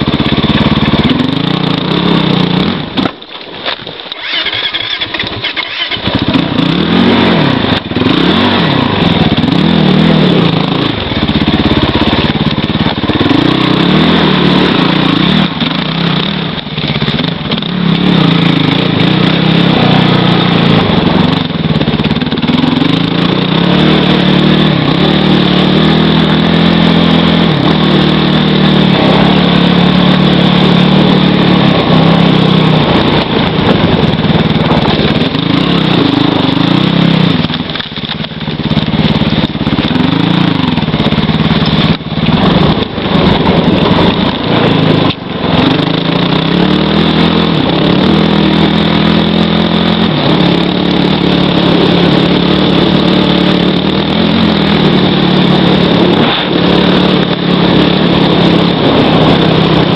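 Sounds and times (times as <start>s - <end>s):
quad engine revving: 0.0s - 3.1s, 4.1s - 59.9s.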